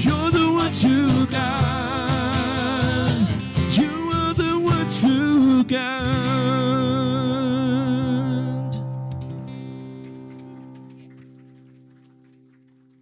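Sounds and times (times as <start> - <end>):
acoustic guitar: 0.0 - 13.0
keyboard: 0.0 - 13.0.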